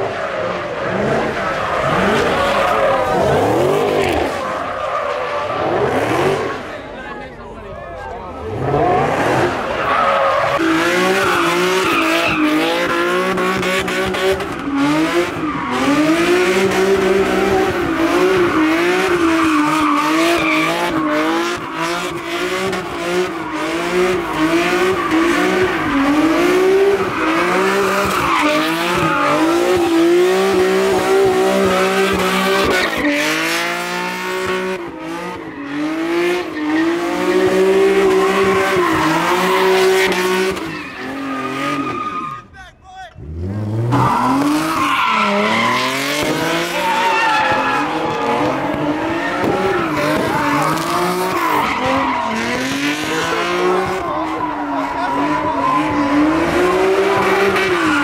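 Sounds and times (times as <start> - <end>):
car engine revving high: 0.0 - 6.9, 8.3 - 42.3, 43.2 - 58.0
tyres screeching: 9.6 - 42.6, 43.7 - 58.0.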